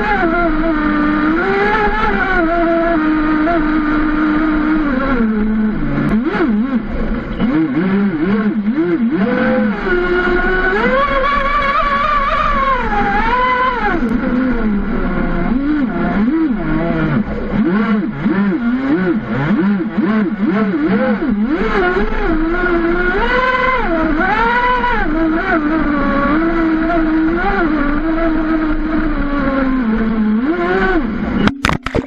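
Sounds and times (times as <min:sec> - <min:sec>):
model boat motor revving: 0:00.0 - 0:31.8.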